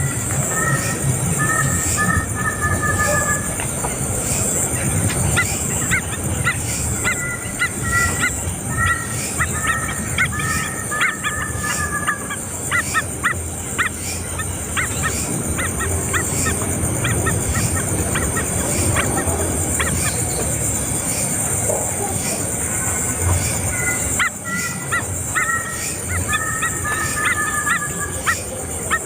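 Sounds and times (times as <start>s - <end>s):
bird chirping: 0.0s - 29.0s
steady high hiss: 0.0s - 29.0s.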